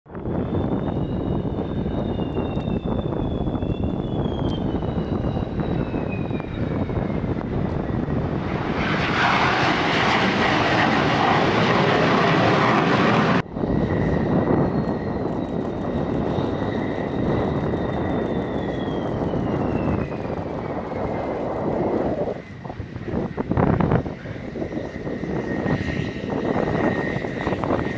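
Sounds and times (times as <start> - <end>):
jet roar with turbine whine: 0.1 - 27.9.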